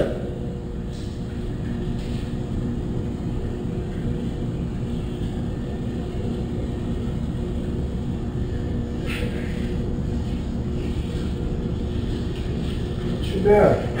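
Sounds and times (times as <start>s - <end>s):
low machine drone: 0.0s - 14.0s.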